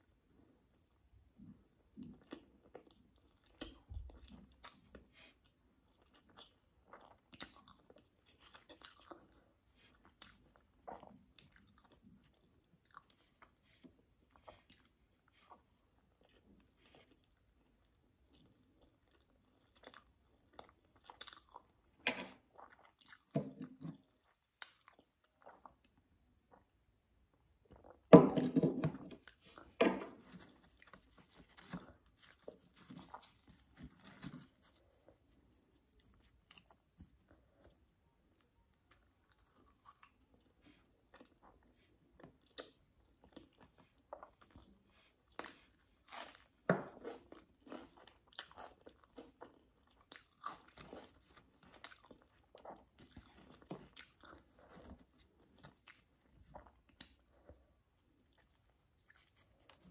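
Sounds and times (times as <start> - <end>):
chewing with soft crunches: 0.0 - 28.1, 29.1 - 59.9.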